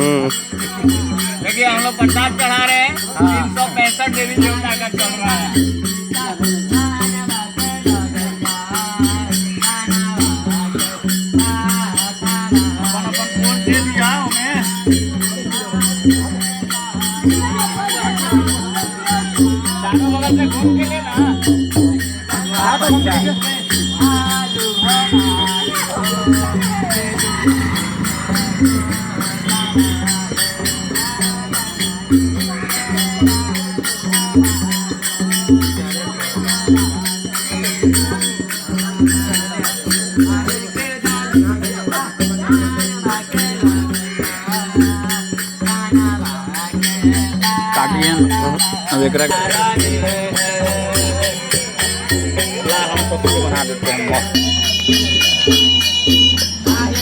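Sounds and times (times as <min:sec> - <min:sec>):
jingling rattle: 0:00.0 - 0:57.0
wavering voices: 0:00.0 - 0:57.0.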